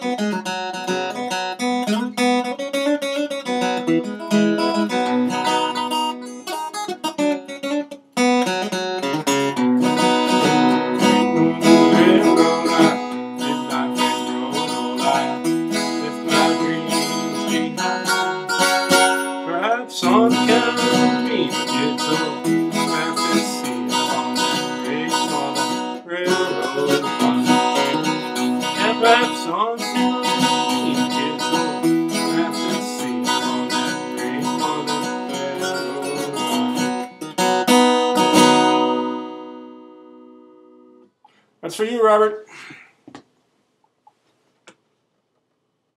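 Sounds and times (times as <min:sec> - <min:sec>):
acoustic guitar strummed and picked: 0:00.0 - 0:41.2.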